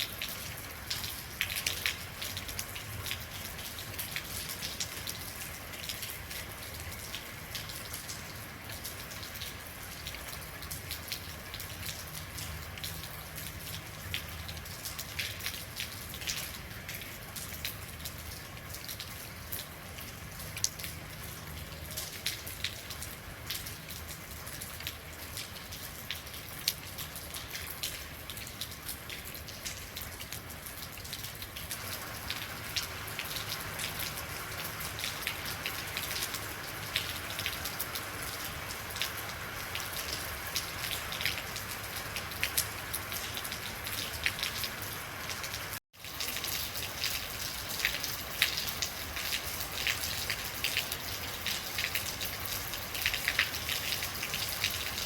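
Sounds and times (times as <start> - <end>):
rain falling: 0.0 - 55.0
raindrops clicking on a surface: 0.0 - 55.0.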